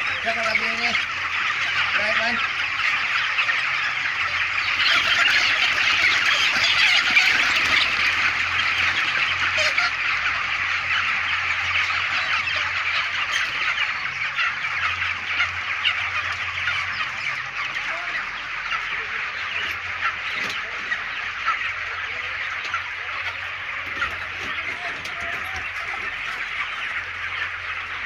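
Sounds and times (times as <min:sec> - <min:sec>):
chickens squawking and peeping: 0:00.0 - 0:28.0.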